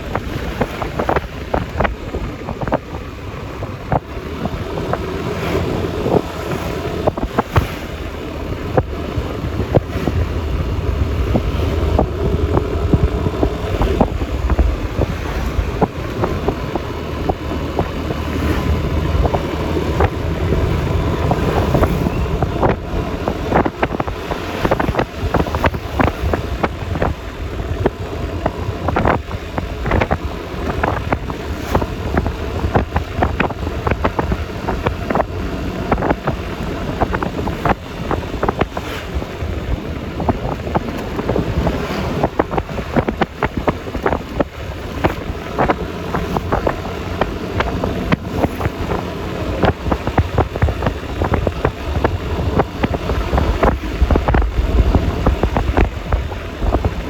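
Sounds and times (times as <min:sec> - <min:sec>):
road noise: 0:00.0 - 0:57.0
scooter engine running: 0:00.0 - 0:57.0
wind buffeting microphone: 0:00.0 - 0:57.0.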